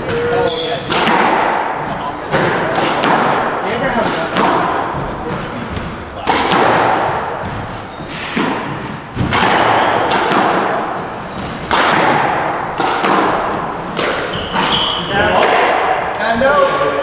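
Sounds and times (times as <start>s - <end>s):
sneakers squeaking on wooden floor: 0.0s - 15.4s
squash ball hits echoing: 0.0s - 17.0s.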